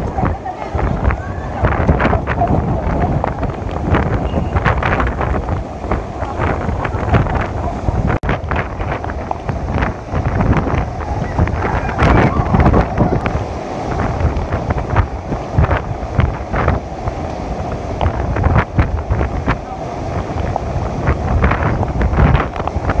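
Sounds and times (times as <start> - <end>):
wind gusts buffeting microphone: 0.0 - 23.0
wind-driven rain rushing: 0.0 - 23.0.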